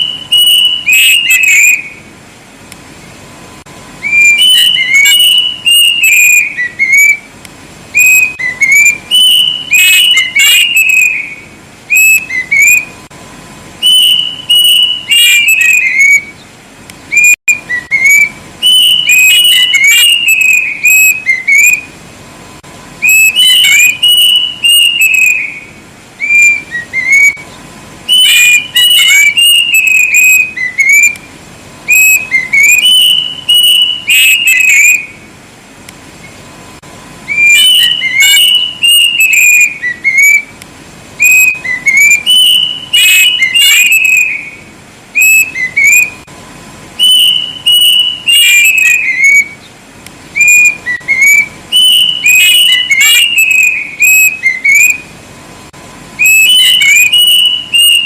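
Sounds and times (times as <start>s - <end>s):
cuckoo whistling phrases: 0.0s - 2.1s, 3.9s - 13.1s, 13.8s - 16.4s, 17.1s - 22.0s, 23.0s - 27.5s, 28.1s - 35.3s, 37.2s - 40.6s, 41.2s - 46.3s, 47.0s - 49.7s, 50.3s - 55.1s, 56.2s - 58.0s.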